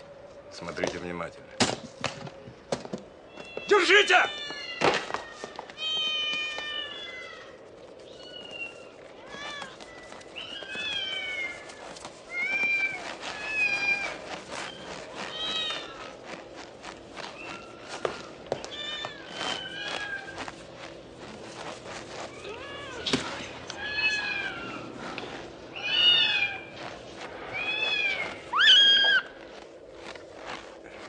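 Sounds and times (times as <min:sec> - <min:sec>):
cats yowling and meowing: 0:03.2 - 0:30.6.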